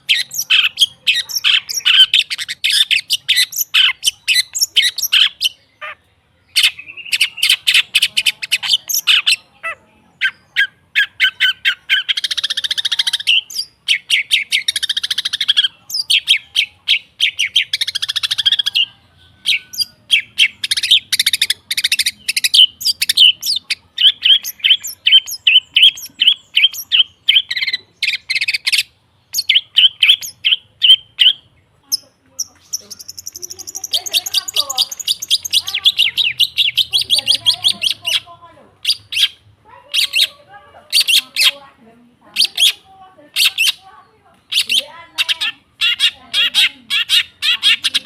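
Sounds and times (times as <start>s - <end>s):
bird singing sharp rapid notes: 0.0s - 9.6s, 10.2s - 39.4s, 44.5s - 48.0s.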